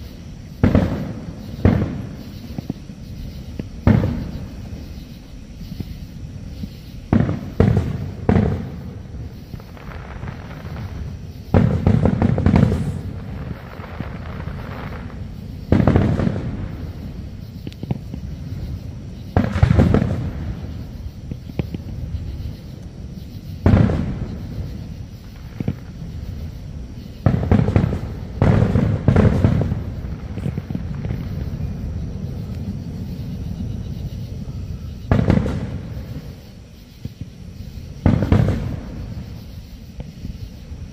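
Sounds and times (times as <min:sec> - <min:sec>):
fireworks booming with echo: 0:00.0 - 0:40.9.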